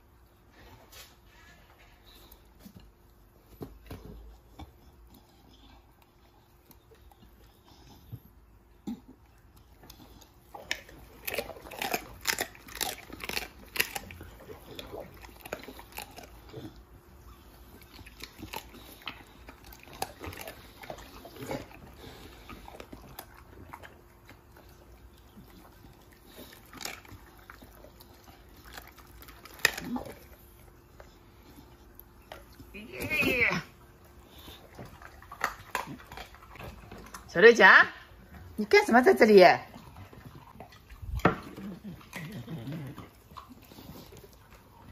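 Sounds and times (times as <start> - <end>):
dog crunching bones: 0.4 - 44.9.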